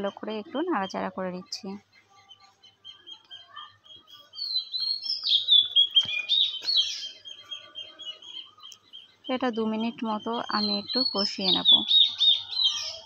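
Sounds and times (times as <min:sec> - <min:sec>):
small birds chirping: 0:00.0 - 0:13.0
twittering bird song: 0:00.0 - 0:13.0.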